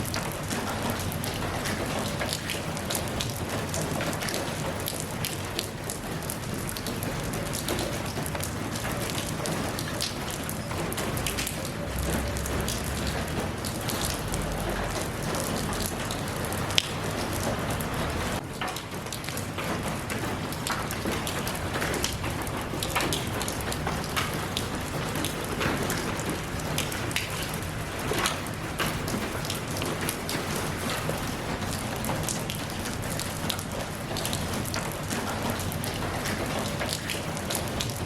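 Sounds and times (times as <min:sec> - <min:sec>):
rain drops ticking on hard surface: 0:00.0 - 0:38.0.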